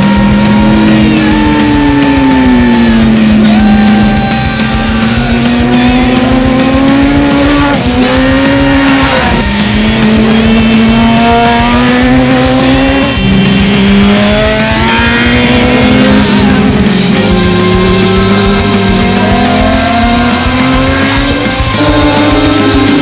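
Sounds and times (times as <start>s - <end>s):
motorcycle engines revving high: 0.0s - 23.0s
rock music: 0.0s - 23.0s.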